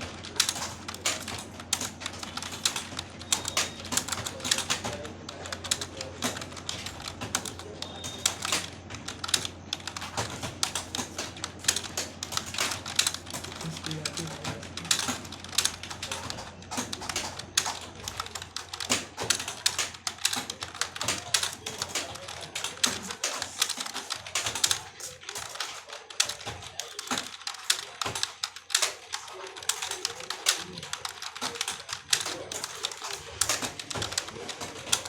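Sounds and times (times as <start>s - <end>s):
keyboard typing: 0.0s - 35.0s.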